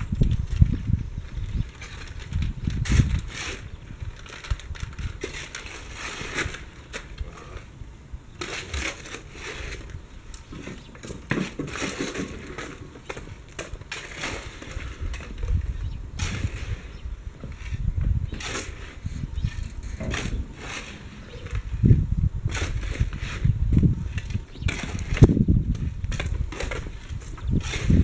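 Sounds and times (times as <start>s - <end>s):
crunching and scraping wood: 0.0s - 7.8s, 8.4s - 28.0s.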